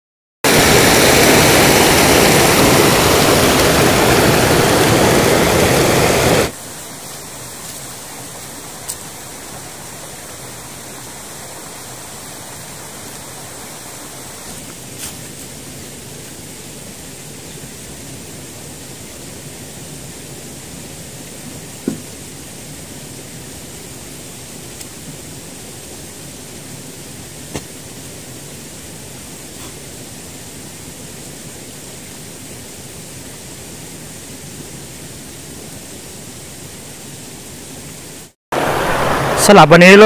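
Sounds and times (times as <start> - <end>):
water rushing over rocks: 0.5 - 35.7, 38.1 - 40.0
steady hiss: 0.5 - 40.0.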